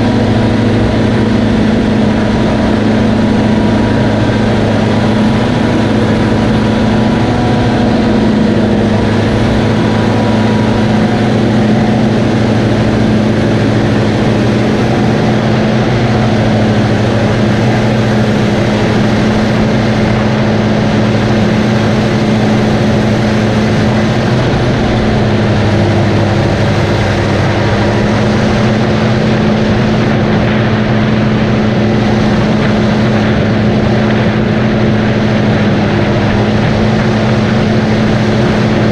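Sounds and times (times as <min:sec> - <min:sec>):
tractor engine under load: 0:00.0 - 0:38.9.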